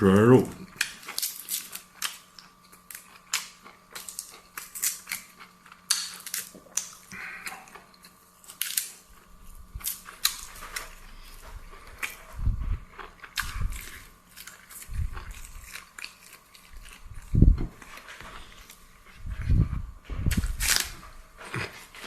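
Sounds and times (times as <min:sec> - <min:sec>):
close chewing with mouth clicks: 0:00.7 - 0:22.0.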